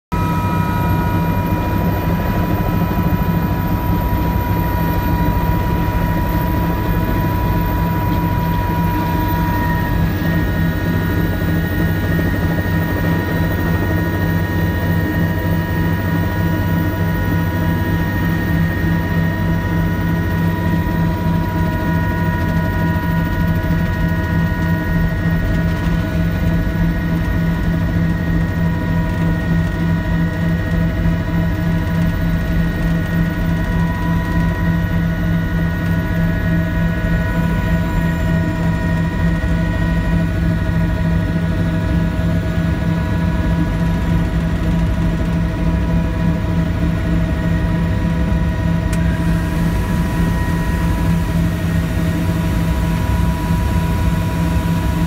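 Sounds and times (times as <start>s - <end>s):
helicopter engine whine: 0.1s - 55.0s
helicopter rotor beating: 0.1s - 55.0s.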